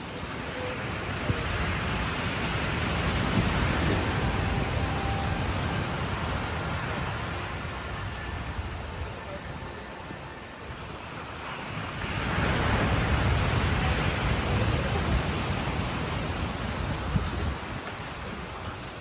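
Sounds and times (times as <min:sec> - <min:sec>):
waves breaking: 0:00.0 - 0:19.0.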